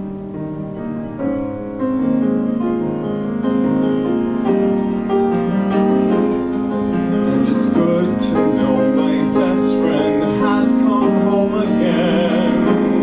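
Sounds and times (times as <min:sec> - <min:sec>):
piano ballad chords: 0:00.0 - 0:13.0.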